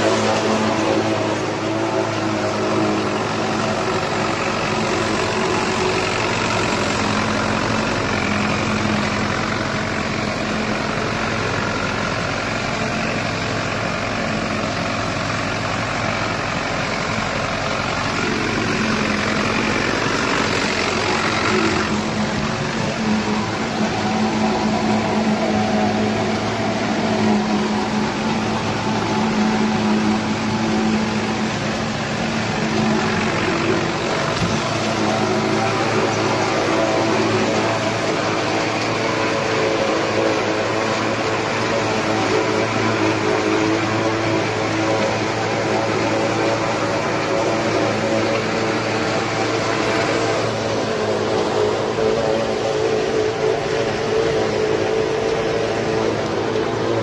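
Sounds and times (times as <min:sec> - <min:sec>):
forage harvester chopping hiss: 0:00.0 - 0:57.0
tractor engine drone: 0:00.0 - 0:57.0.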